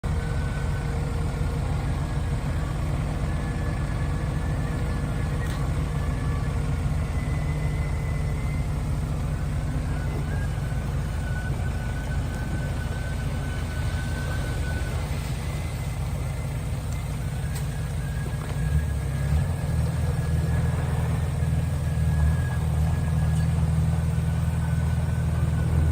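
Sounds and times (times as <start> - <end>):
heavy diesel engine rumbling: 0.0 - 25.9.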